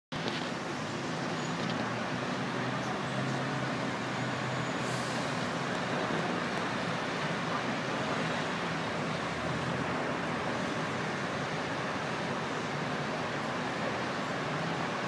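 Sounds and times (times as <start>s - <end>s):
road traffic rushing: 0.1s - 15.0s.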